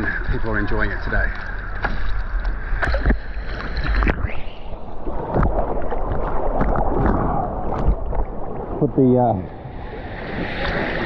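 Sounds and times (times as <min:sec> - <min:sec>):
water sloshing around kayak: 0:00.0 - 0:11.0.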